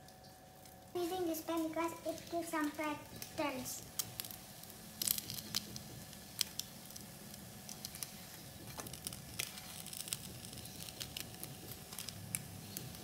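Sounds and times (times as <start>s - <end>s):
toast sizzling in a pan: 1.0s - 13.0s.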